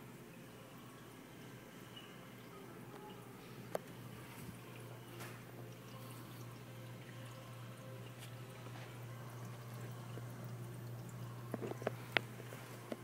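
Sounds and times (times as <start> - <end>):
aquarium equipment hum: 0.0 - 13.0
water trickling and dripping: 0.0 - 13.0.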